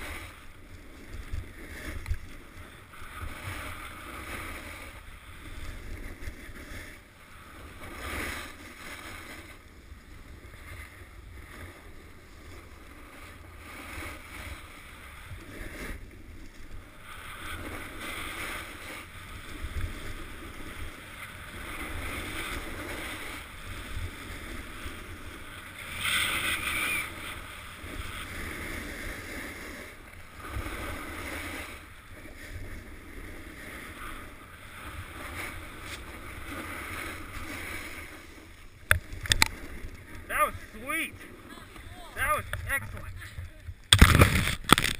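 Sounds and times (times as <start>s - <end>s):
skis scraping on snow: 0.0s - 43.4s
wind rumbling on microphone: 0.0s - 44.9s.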